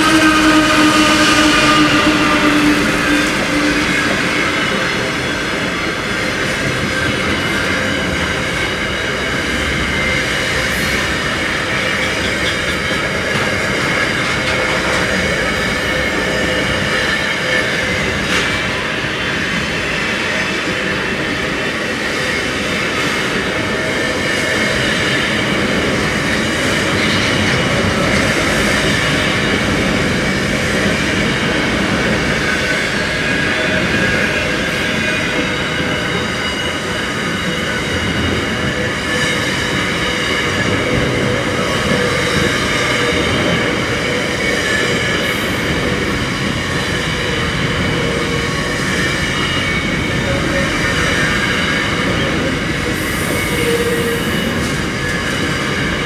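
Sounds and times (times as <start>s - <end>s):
freight train wheel and rail noise: 0.0s - 56.0s
high wheel squeal: 0.0s - 56.0s.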